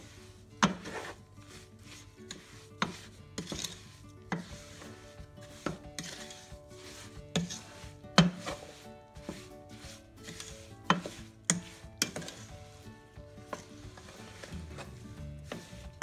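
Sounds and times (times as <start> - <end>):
spoon scraping a metal pot: 0.0 - 16.0.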